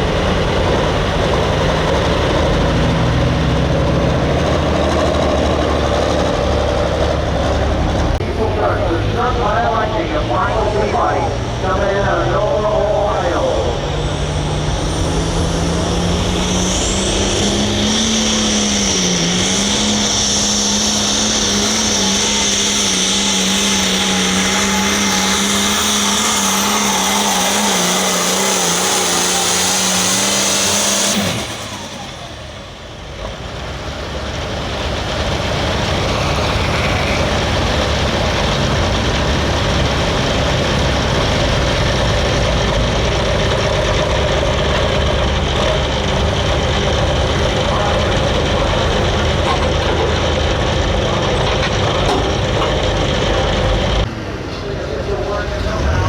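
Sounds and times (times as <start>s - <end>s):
high whine: 0.0s - 33.3s, 34.9s - 56.0s
tractor diesel engine running hard: 0.0s - 56.0s.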